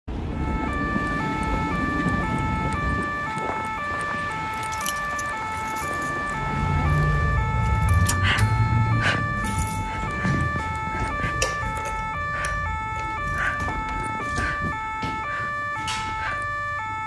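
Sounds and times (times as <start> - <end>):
two-tone emergency siren: 0.1 - 17.0.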